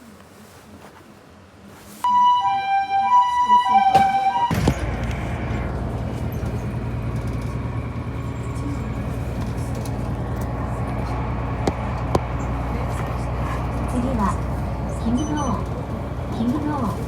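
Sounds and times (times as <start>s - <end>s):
bus engine droning: 2.1s - 17.0s.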